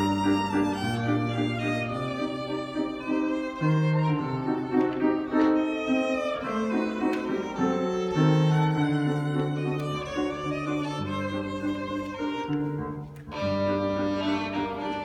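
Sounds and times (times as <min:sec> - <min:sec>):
solo violin melody: 0:00.0 - 0:15.0.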